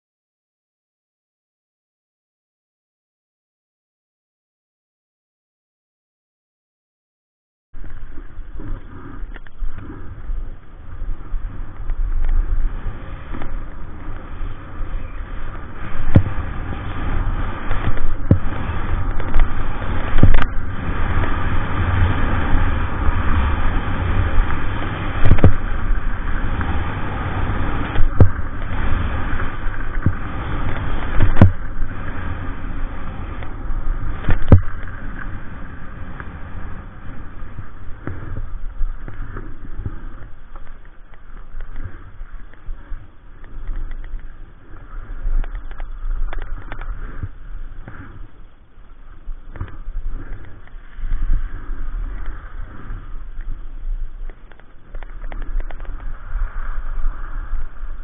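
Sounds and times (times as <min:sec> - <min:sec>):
skis scraping over snow: 0:07.8 - 0:58.0
wind rumbling on microphone: 0:07.8 - 0:58.0.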